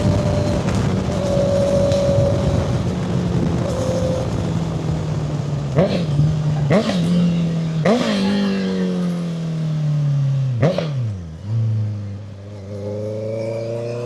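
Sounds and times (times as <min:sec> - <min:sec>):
motorcycle engine throttle blips: 0:00.0 - 0:14.0.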